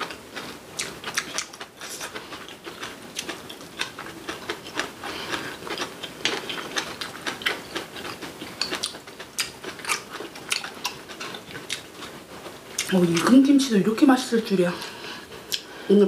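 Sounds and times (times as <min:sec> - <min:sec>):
wet chewing and crunching: 0:00.0 - 0:13.4.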